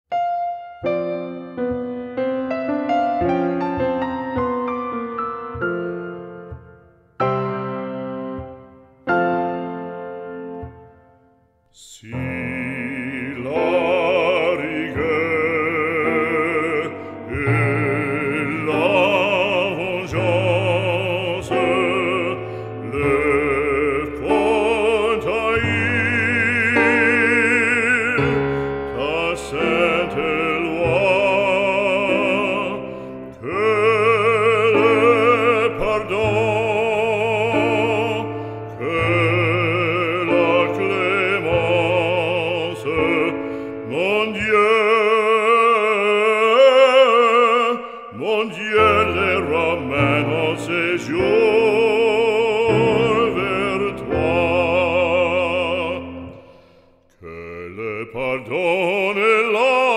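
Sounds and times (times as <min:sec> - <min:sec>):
operatic singing with vibrato: 0:11.7 - 0:59.9.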